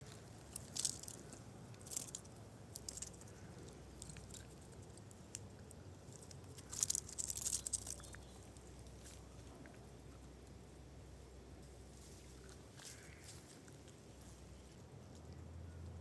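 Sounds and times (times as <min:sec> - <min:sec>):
squirrel crunching and gnawing: 0:00.0 - 0:16.0.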